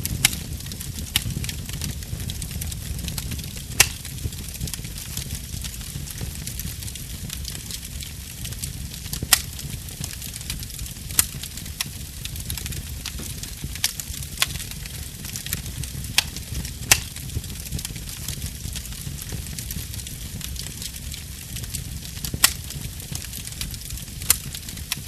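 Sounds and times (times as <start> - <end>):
low rumble of flame: 0.0 - 25.0
wood crackling and popping: 0.0 - 25.0.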